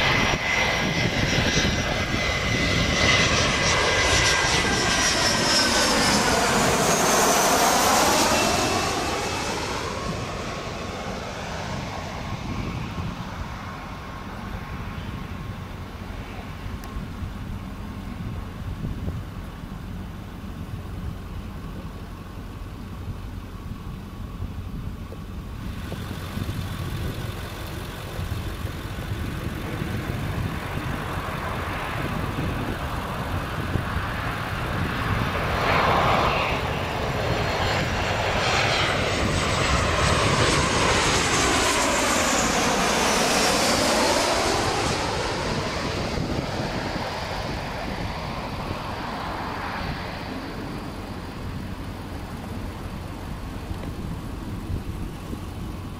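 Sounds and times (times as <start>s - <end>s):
jet airliner flying overhead: 0.0s - 55.9s.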